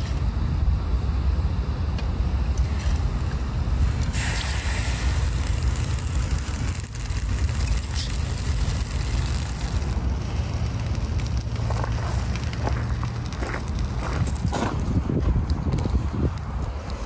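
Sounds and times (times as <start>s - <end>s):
wood fire crackling: 1.9s - 17.0s
wind rumbling on microphone: 2.4s - 17.0s.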